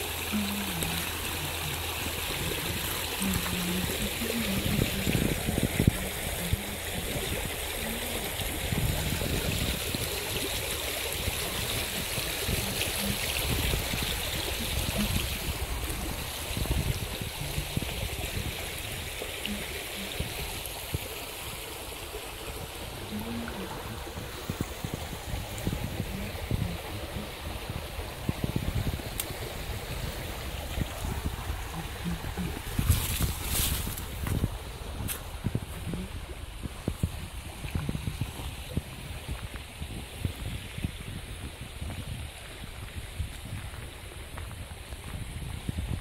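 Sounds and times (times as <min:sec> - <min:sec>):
stream running over pebbles: 0:00.0 - 0:46.0.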